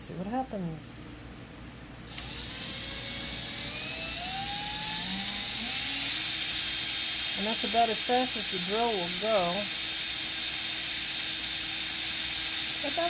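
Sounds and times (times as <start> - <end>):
electric drill motor whine: 2.1 - 13.0.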